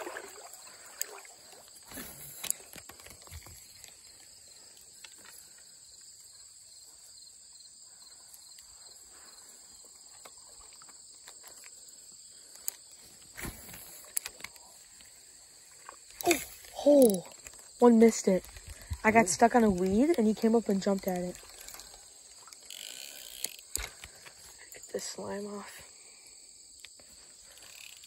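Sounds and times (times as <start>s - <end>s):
insects chirping in grass: 0.0s - 28.0s.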